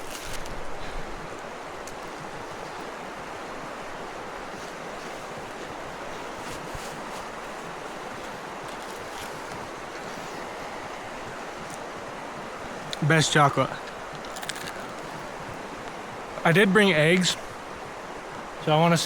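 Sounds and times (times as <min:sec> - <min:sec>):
faint crackles: 0:00.0 - 0:03.0, 0:04.2 - 0:19.0
rushing outdoor noise: 0:00.0 - 0:19.0.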